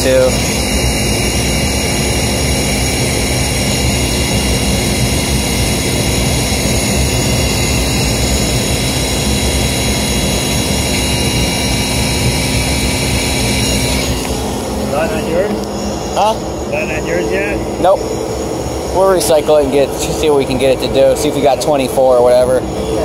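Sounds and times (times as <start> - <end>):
constant hum: 0.0 - 23.0
gas heating unit running: 0.0 - 23.0.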